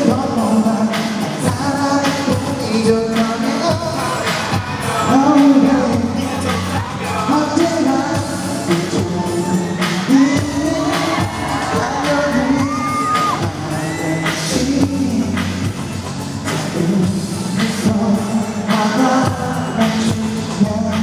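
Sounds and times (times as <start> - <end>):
live pop music over sound system: 0.0 - 21.0
man singing: 0.0 - 21.0.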